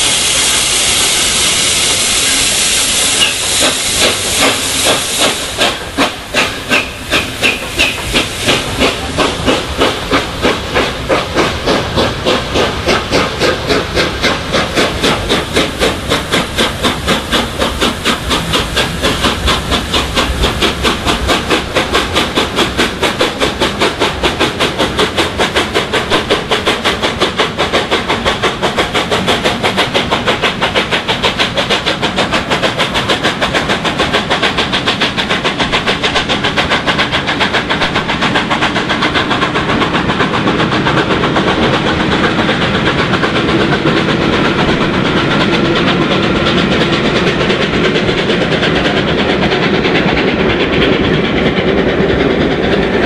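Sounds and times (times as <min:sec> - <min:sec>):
steam hissing: 0:00.0 - 0:53.0
steam locomotive exhaust beats: 0:00.0 - 0:53.0.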